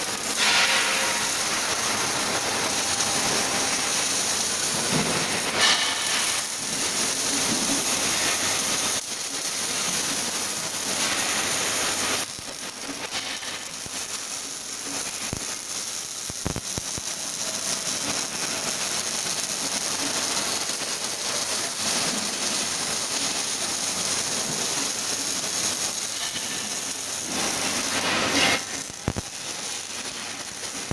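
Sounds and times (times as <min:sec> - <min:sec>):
welding arc hissing: 0:00.0 - 0:30.9.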